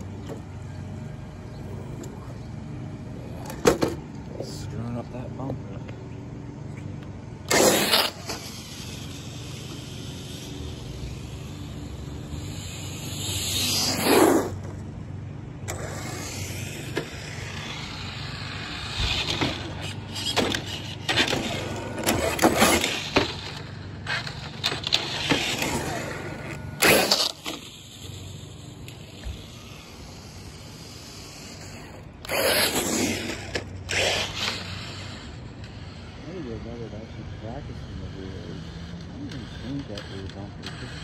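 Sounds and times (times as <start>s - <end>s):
rc truck electric motor: 7.0s - 41.0s.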